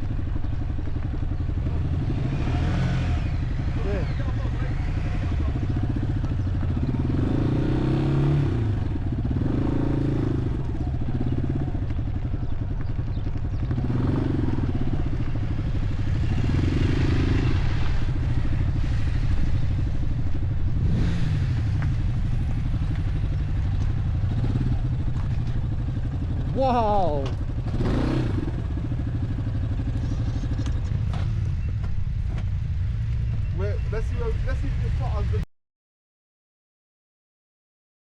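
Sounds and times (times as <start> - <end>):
motorcycle engine running: 0.0 - 35.4.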